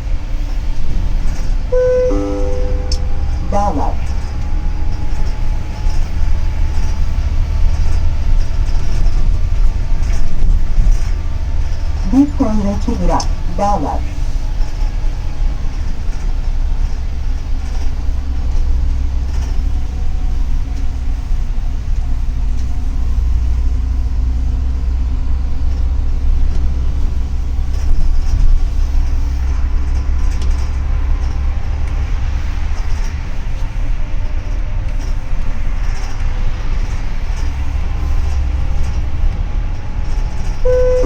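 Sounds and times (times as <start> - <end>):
bus engine and road noise: 0.0 - 41.0.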